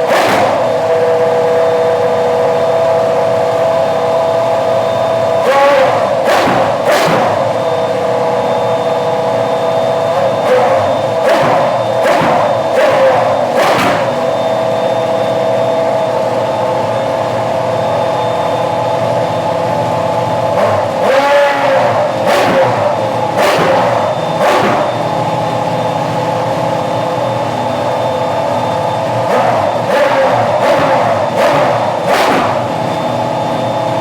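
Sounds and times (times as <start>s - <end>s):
engine revving blips: 0.0s - 34.0s
racing engine idling: 0.0s - 34.0s.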